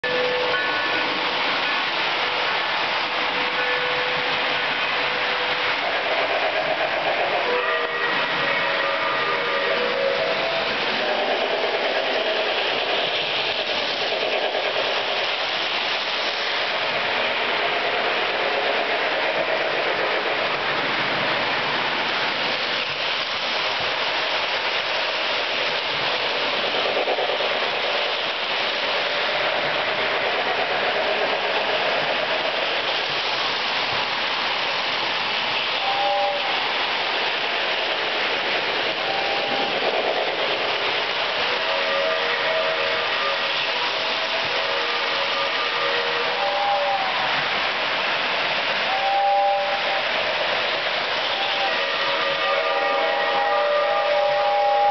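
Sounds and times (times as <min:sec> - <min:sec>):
model train wheels rattling on rails: 0:00.0 - 0:45.1.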